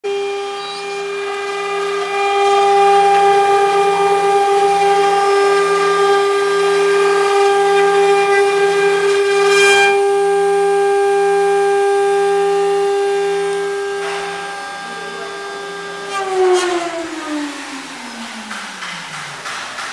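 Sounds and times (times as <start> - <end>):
spindle high-pitched whine: 0.1 - 19.5.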